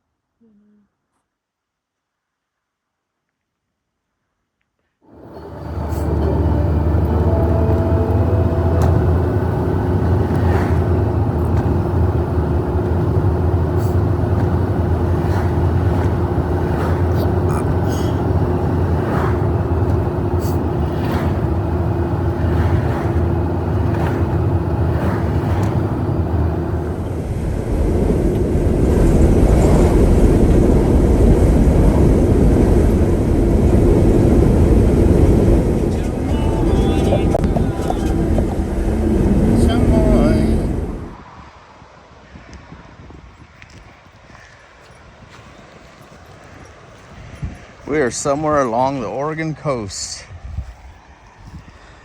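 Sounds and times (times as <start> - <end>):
engine and tyres rumbling: 5.1 - 42.2, 43.3 - 52.0.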